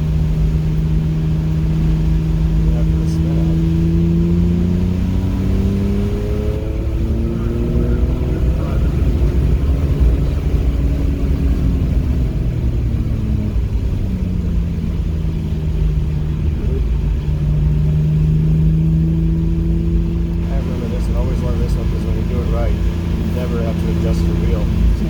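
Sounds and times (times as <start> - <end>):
car engine under way: 0.0 - 25.0
low road rumble: 0.0 - 25.0.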